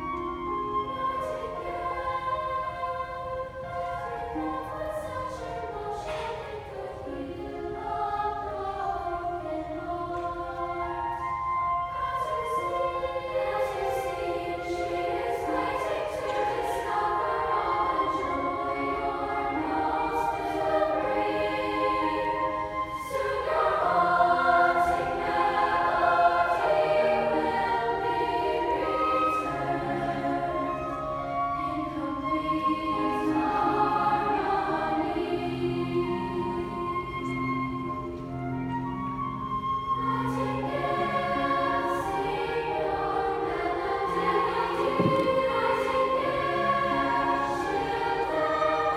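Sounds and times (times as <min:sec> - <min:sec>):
chorus singing in parts: 0:00.0 - 0:48.9.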